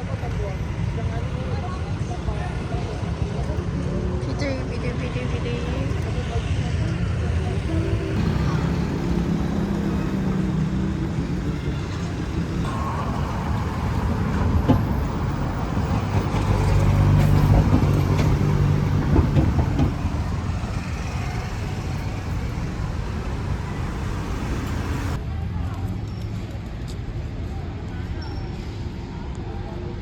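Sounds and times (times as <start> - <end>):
road noise: 0.0 - 30.0
vehicle engine running: 0.4 - 25.2.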